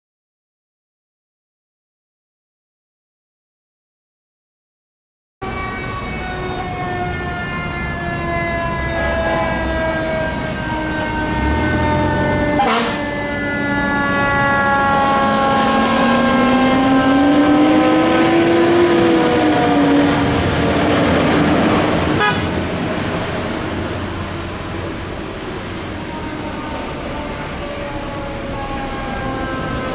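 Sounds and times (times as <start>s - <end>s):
fire truck engines passing: 5.4s - 29.9s
fire truck siren winding down: 5.4s - 29.9s
lower siren rising and falling: 5.4s - 29.9s.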